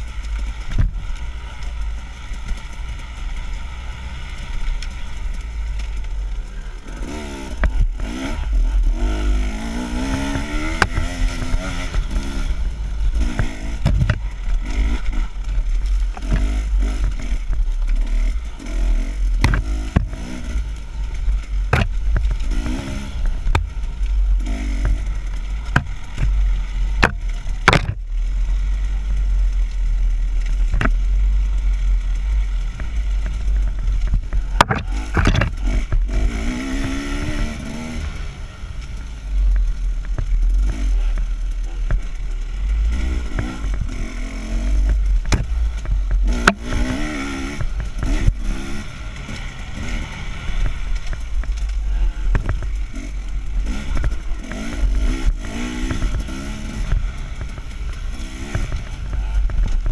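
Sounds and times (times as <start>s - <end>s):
dirt bike engine revving: 0.0s - 59.9s
knocks and rattles over bumps: 0.0s - 59.9s.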